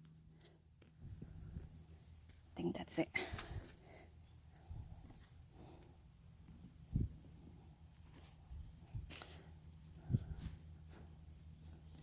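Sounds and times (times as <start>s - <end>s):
insects trilling high-pitched: 0.0s - 12.0s.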